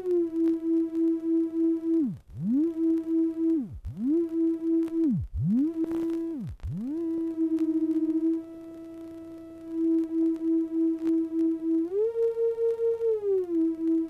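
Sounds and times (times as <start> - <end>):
electronic test tones beating: 0.0 - 14.0.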